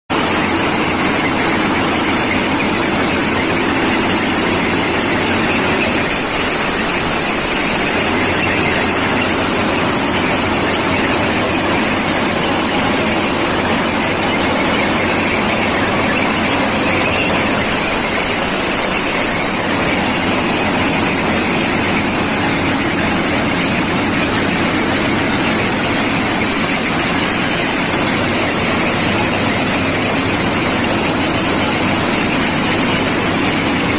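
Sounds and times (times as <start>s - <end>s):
track machine engine running: 0.1s - 33.9s.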